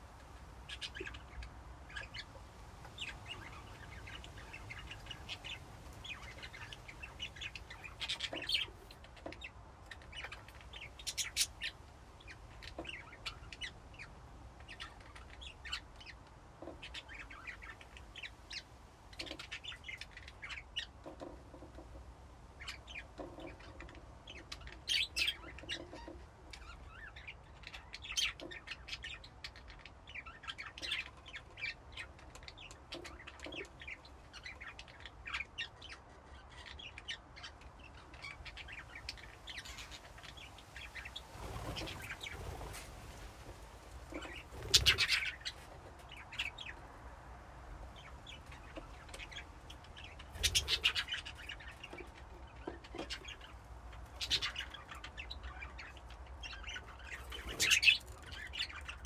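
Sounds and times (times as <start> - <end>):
budgies chirping: 0.6 - 21.3, 22.6 - 46.9, 47.9 - 59.0.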